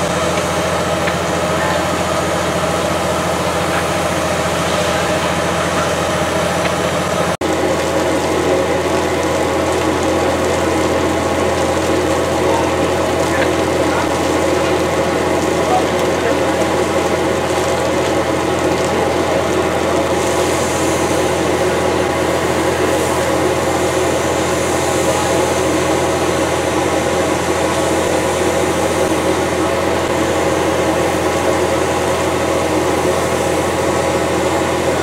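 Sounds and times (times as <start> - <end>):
fire hoses spraying water: 0.0 - 35.0
heavy diesel engine drone: 0.0 - 35.0.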